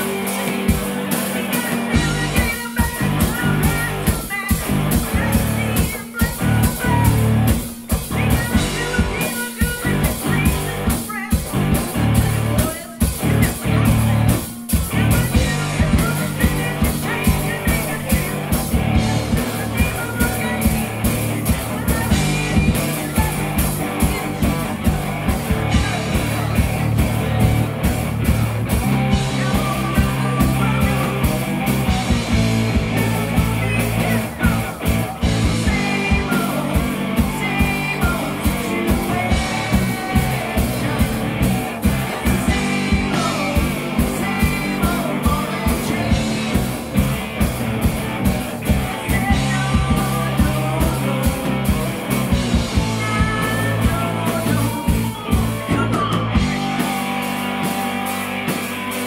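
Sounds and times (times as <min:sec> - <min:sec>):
live rock band playing: 0:00.0 - 0:59.0
person singing: 0:00.0 - 0:59.0.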